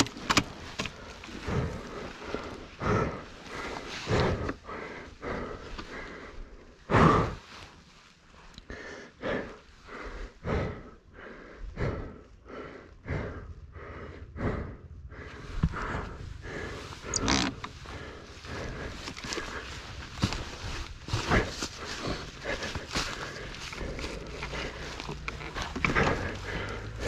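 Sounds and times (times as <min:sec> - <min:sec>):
person panting hard: 0:00.1 - 0:27.0.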